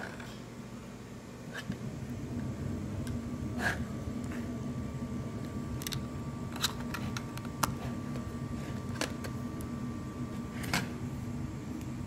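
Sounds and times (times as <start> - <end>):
low hum: 0.6 - 12.0.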